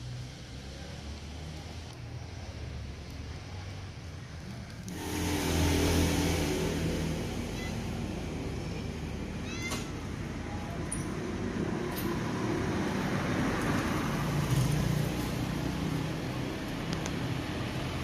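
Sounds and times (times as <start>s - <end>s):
background traffic noise: 0.0s - 18.0s.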